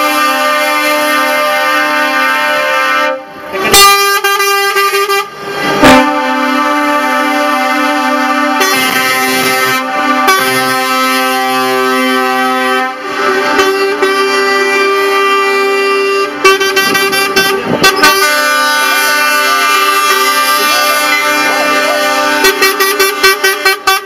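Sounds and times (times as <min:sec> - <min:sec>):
short horn toots: 0:00.0 - 0:24.0
truck air horn blasts: 0:00.0 - 0:24.0.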